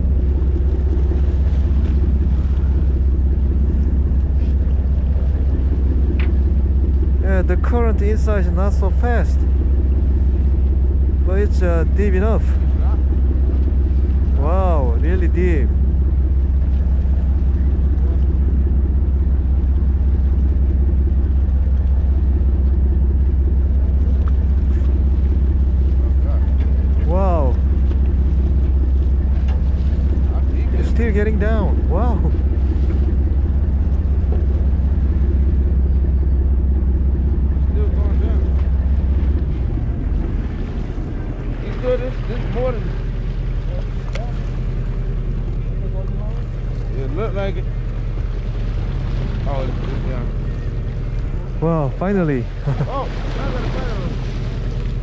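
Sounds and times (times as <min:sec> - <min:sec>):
boat engine rumbling: 0:00.0 - 0:55.0.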